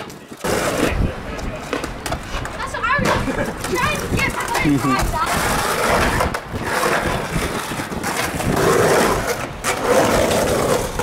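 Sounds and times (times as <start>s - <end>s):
skateboard wheels rolling on pavement: 0.0s - 11.0s.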